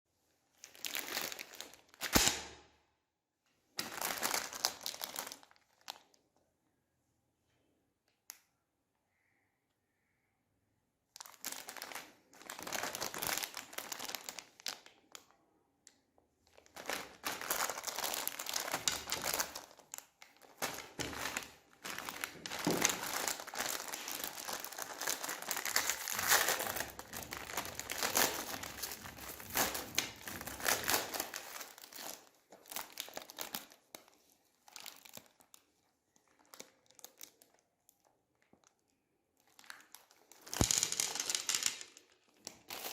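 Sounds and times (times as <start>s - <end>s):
plastic packaging crinkling: 0.5s - 2.4s, 3.8s - 6.2s, 11.2s - 15.4s, 16.4s - 42.9s.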